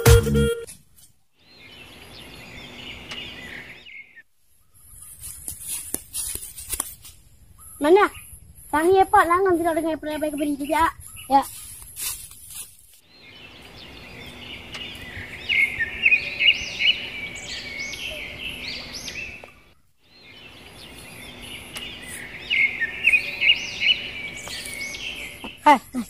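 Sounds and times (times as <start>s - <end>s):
birds chirping: 1.4s - 5.4s, 7.4s - 11.9s, 13.0s - 26.0s.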